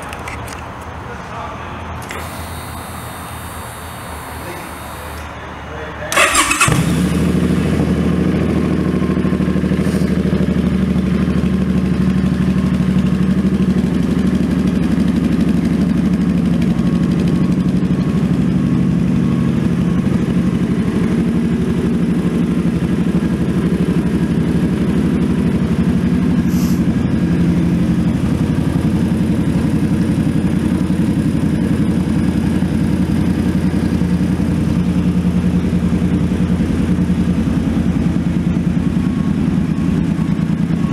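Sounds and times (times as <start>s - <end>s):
motorcycle engine idling: 2.0s - 5.2s, 6.2s - 40.9s.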